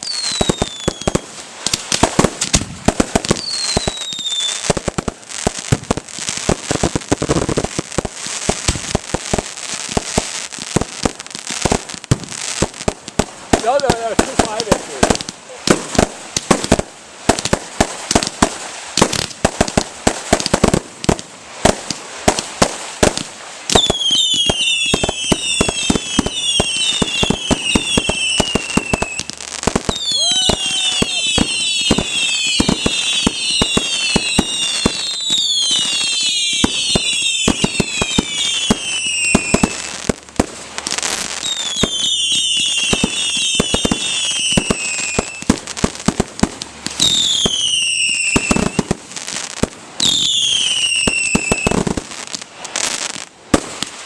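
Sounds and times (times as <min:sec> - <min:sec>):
firework bangs: 0:00.0 - 0:54.0
whistling fireworks: 0:00.0 - 0:54.0.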